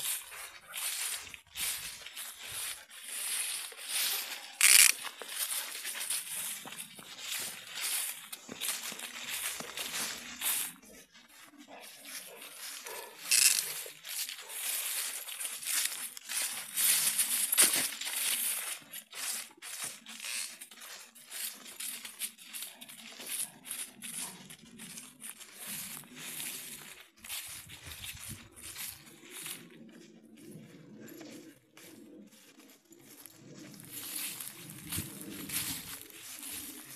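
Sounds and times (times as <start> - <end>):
footsteps through dry leaves: 0.0 - 36.9.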